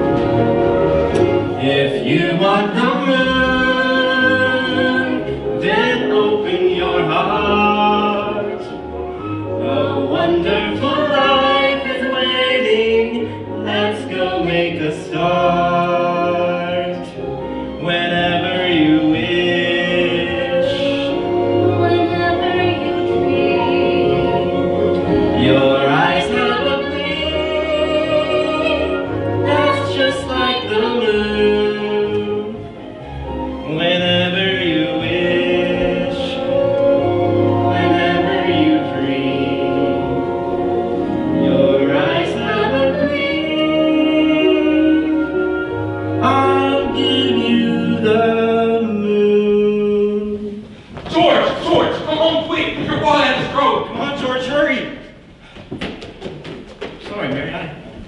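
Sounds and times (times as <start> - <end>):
instrumental accompaniment: 0.0 - 57.1.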